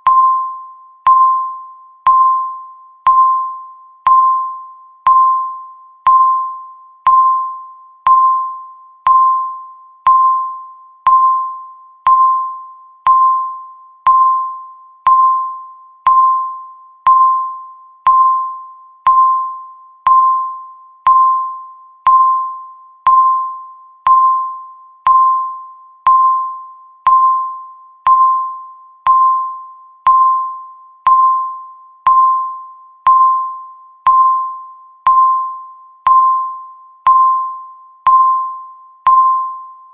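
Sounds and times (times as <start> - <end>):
timer ticking with chime tone: 0.0 - 39.9.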